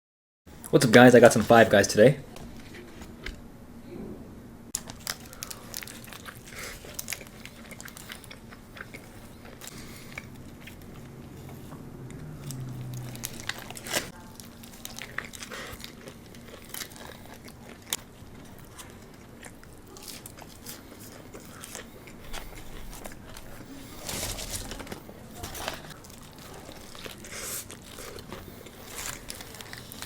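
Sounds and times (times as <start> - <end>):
close crunching and chewing: 4.8 - 30.0.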